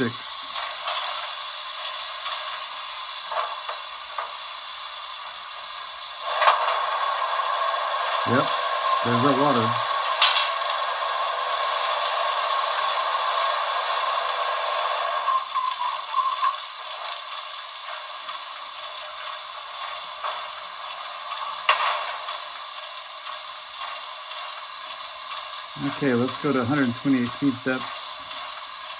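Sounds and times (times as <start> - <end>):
steady hiss: 0.0 - 28.9.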